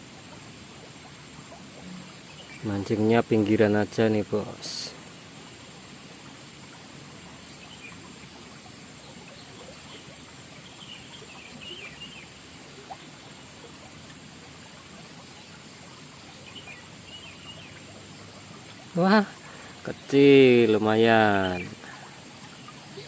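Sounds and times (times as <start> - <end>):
water flowing in stream: 0.0 - 23.0.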